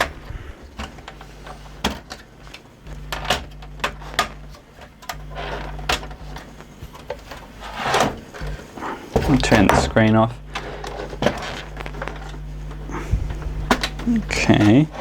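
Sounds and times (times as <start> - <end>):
low hum: 0.0 - 1.8, 2.8 - 15.0.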